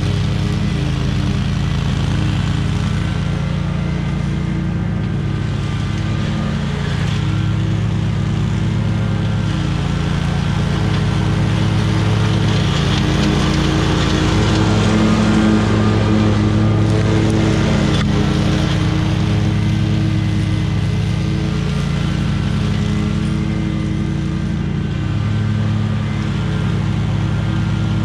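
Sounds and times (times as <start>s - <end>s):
small petrol engine running: 0.0s - 28.0s.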